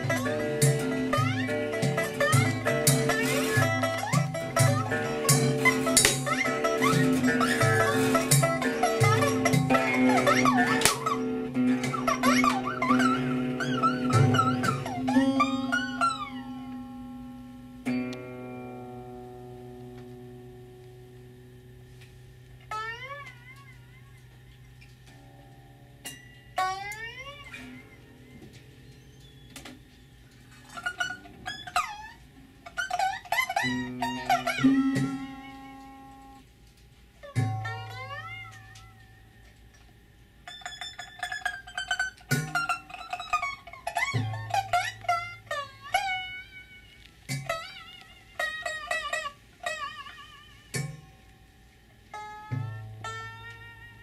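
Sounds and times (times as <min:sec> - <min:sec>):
improvised metal and string music: 0:00.0 - 0:54.0.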